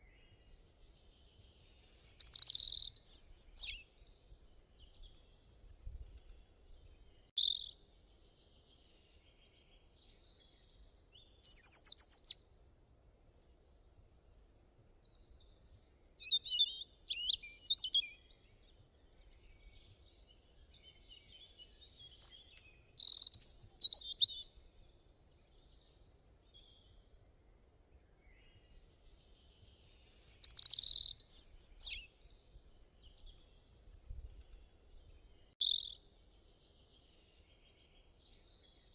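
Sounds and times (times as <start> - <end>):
small birds chirping: 0.0 - 12.4, 14.7 - 27.2, 28.0 - 38.9.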